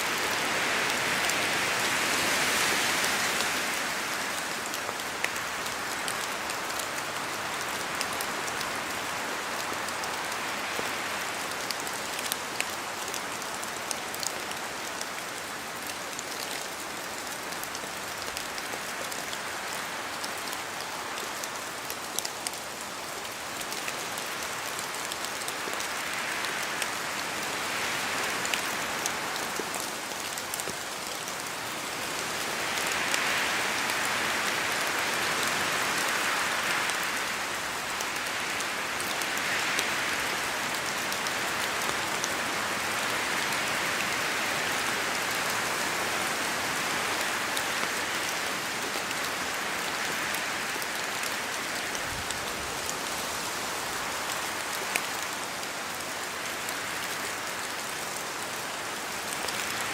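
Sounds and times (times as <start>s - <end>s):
steady rain falling: 0.0s - 59.9s
wind through trees: 0.0s - 59.9s.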